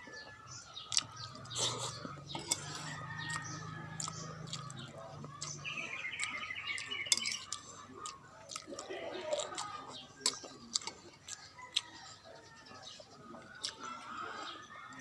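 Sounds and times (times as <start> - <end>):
birds chirping: 0.0 - 15.0
eating noises: 0.0 - 15.0.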